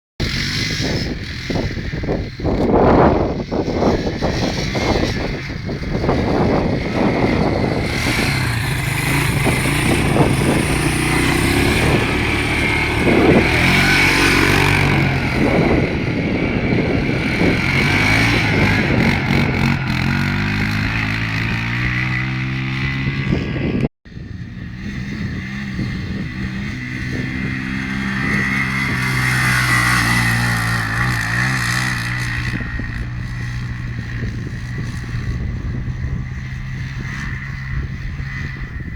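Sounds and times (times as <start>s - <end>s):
quad bike engine running: 0.2s - 38.9s.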